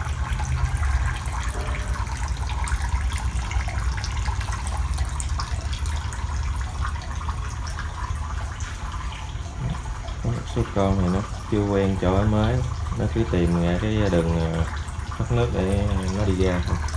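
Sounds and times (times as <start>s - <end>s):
water trickling in a tiled tank: 0.0s - 16.9s.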